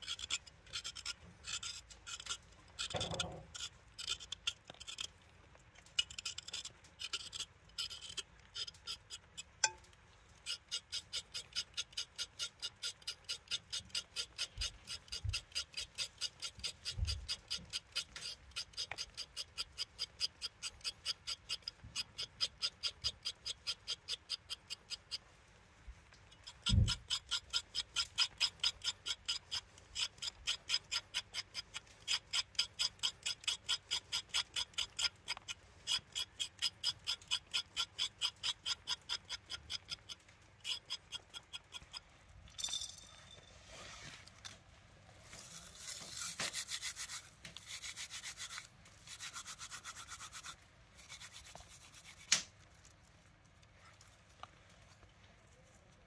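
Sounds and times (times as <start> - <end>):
blade scraping vegetable peel: 0.0 - 5.2, 5.8 - 9.8, 10.4 - 25.2, 26.3 - 42.0, 45.2 - 53.1.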